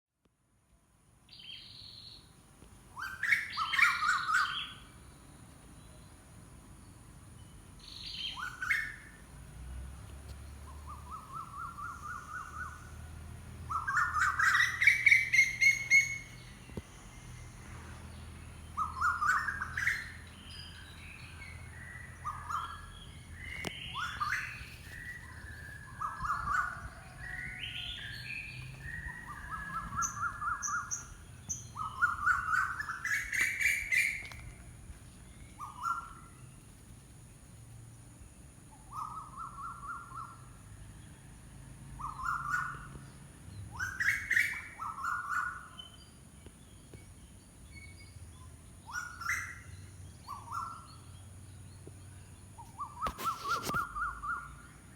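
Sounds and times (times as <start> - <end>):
wild birds calling and trilling: 2.9 - 54.9.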